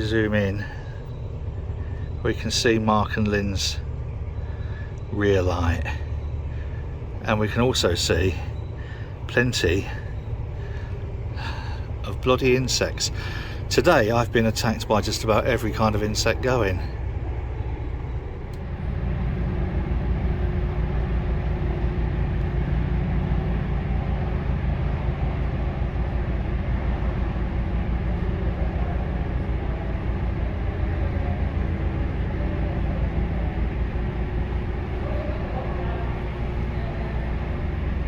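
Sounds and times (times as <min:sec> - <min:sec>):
diesel boat engine running: 0:00.0 - 0:38.0.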